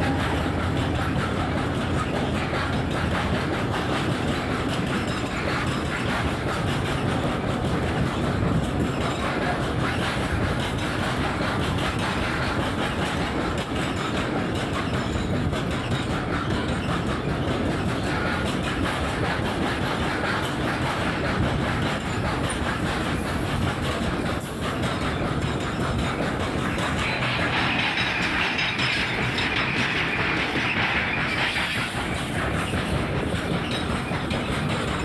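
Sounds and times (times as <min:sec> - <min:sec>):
train wheels rumbling on rails: 0:00.0 - 0:35.0
wheels clicking over rail joints: 0:00.0 - 0:35.0.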